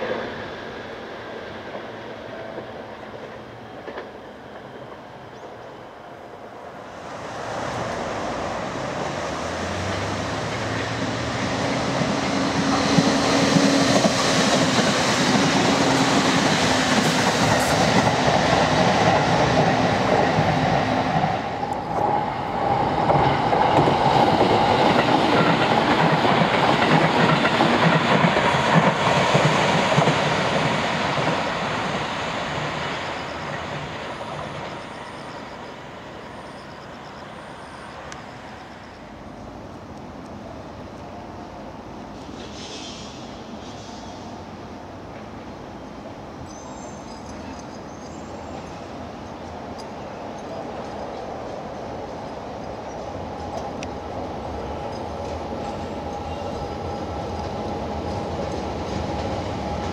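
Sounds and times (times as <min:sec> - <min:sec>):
electric train passing: 0:00.0 - 0:59.9.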